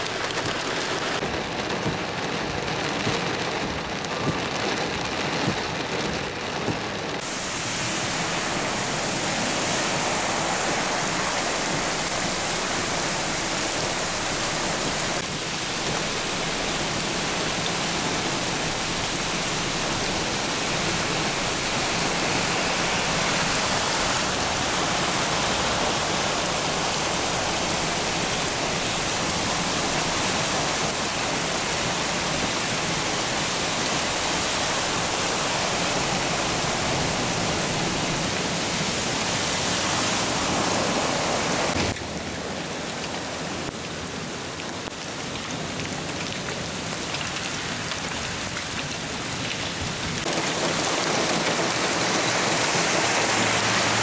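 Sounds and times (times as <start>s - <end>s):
heavy rain on water and pavement: 0.0s - 54.0s.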